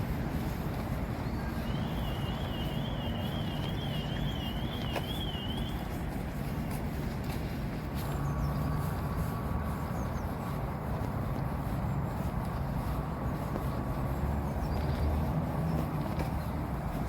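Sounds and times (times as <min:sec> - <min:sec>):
low rumble of passing traffic: 0:00.0 - 0:17.0.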